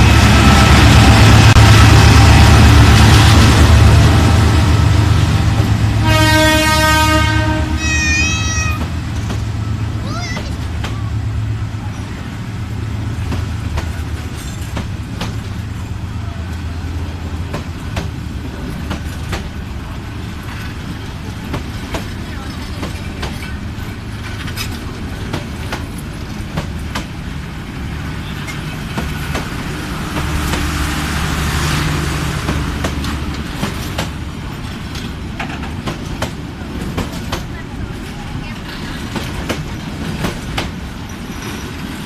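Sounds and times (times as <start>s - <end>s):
train rumble: 0.0s - 42.0s
train wheels clicking over rail joints: 8.1s - 42.0s.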